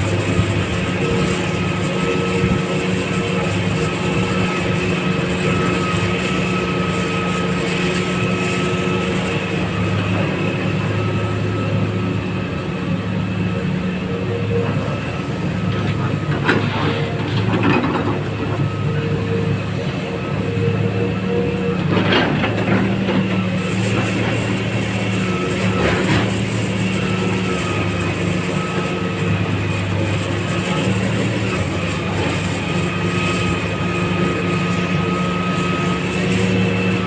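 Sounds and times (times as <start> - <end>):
diesel engine under load: 0.0 - 37.0
steady whine: 0.0 - 37.0.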